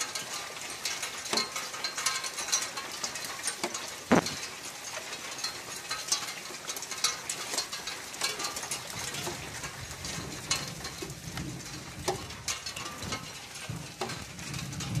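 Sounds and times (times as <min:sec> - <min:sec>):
drops ticking on hard surfaces: 0:00.0 - 0:15.0
rain falling: 0:00.0 - 0:15.0.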